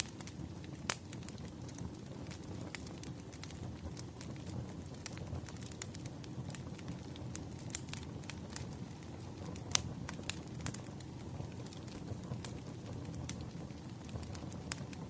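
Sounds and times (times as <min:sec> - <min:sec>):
campfire crackling and popping: 0:00.0 - 0:15.0
low rumble of burning wood: 0:00.0 - 0:15.0.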